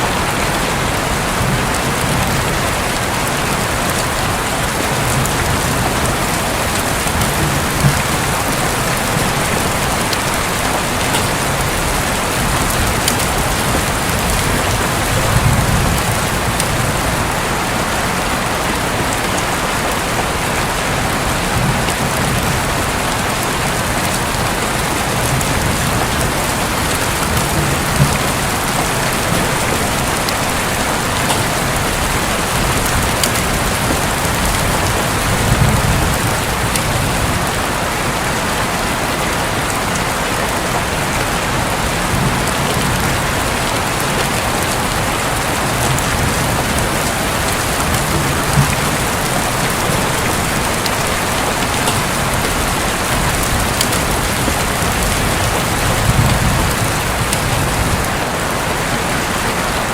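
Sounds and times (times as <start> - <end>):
heavy rain on a roof: 0.0 - 59.9
distant thunder rumbles: 0.2 - 18.9, 20.6 - 38.1, 41.8 - 58.2.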